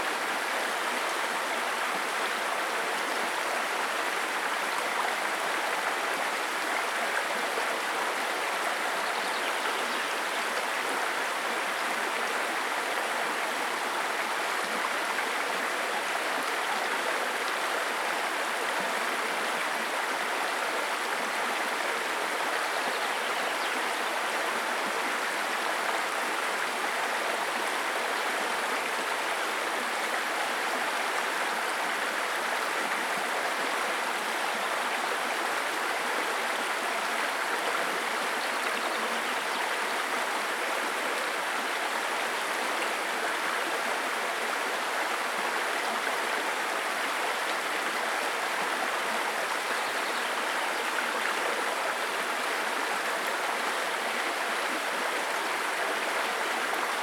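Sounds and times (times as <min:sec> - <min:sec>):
stream water burbling over stones: 0:00.0 - 0:57.0.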